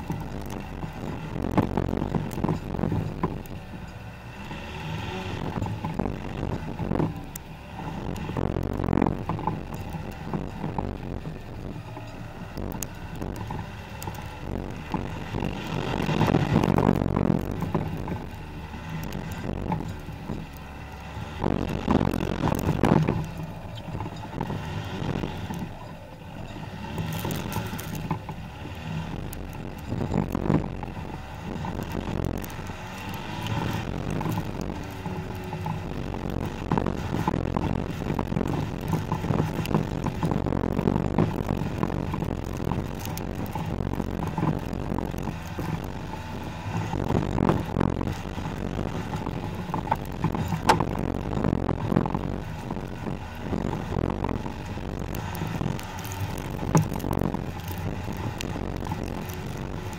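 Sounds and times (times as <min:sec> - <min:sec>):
small ticks: 0:00.0 - 0:59.9
tyre and suspension rumble: 0:00.0 - 0:59.9
wind buffeting microphone: 0:00.0 - 0:59.9.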